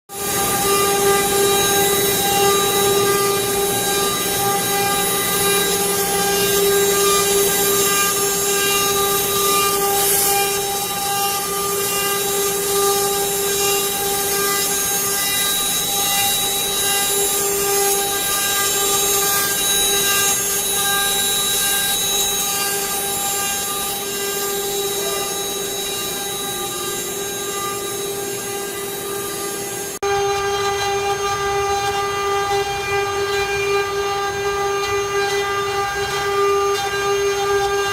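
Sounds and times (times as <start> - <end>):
router spindle whining: 0.2 - 37.9.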